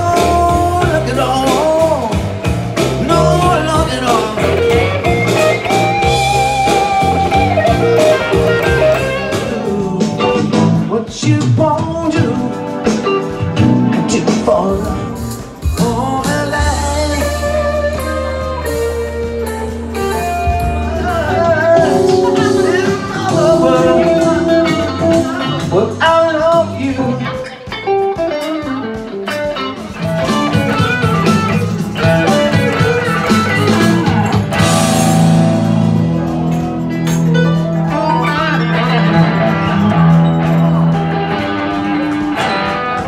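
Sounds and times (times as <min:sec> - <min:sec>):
electric guitar bending notes: 0:00.0 - 0:43.0
live blues band: 0:00.0 - 0:43.0.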